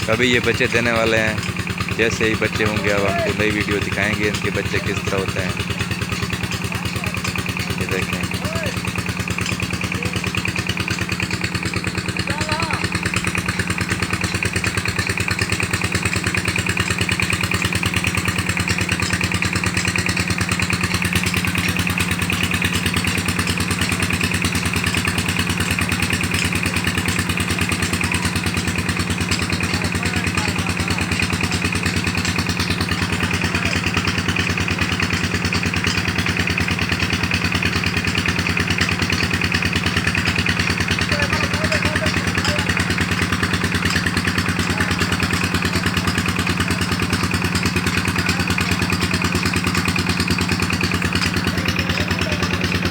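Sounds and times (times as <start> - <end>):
small engine idling: 0.0 - 52.9.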